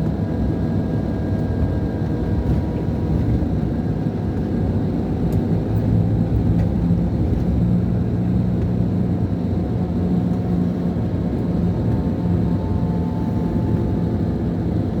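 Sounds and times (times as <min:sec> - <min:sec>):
diesel engine low drone: 0:00.0 - 0:15.0.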